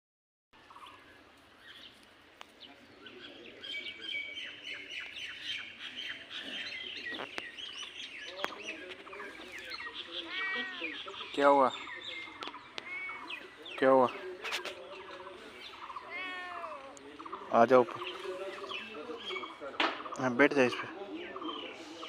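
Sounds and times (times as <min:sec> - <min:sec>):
birds chirping: 0:00.6 - 0:22.0.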